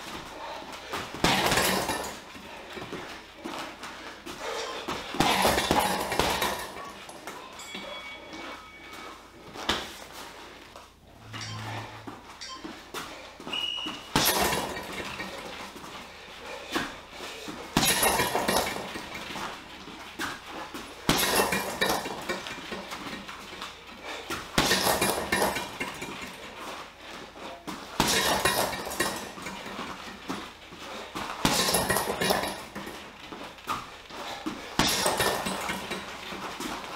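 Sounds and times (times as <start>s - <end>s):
boxing gloves punching heavy bag: 0.0s - 10.3s, 11.2s - 36.9s.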